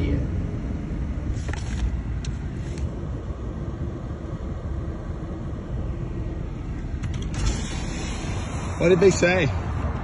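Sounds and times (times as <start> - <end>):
car engine idling: 0.0 - 10.0
faint steady hum: 0.0 - 10.0.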